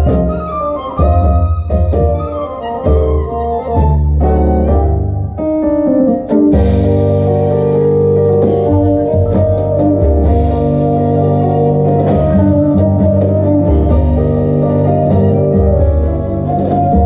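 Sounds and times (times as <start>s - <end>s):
tango band playing: 0.0s - 17.0s.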